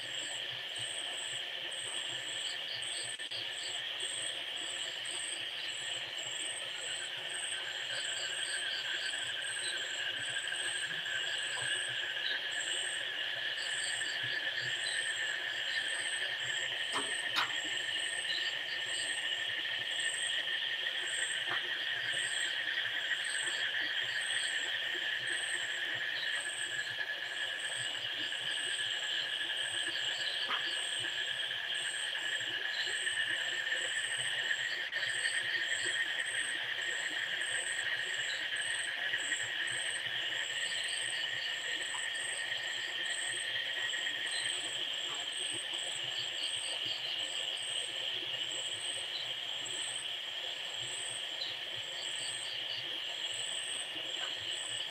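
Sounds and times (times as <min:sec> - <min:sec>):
insect chirp: 0:00.0 - 0:54.9
insects droning: 0:00.0 - 0:54.9.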